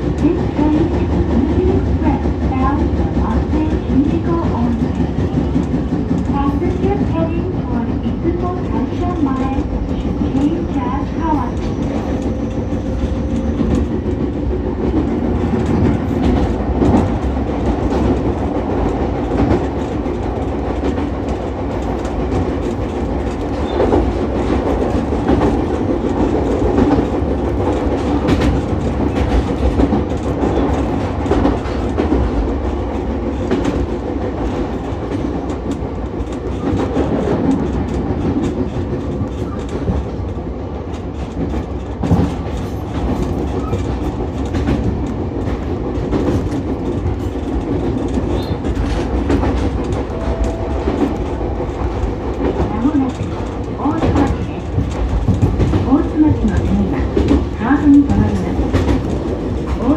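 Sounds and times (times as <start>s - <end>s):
railcar rumbling on track: 0.0s - 59.9s
wheels clacking over rail joints: 0.0s - 59.9s.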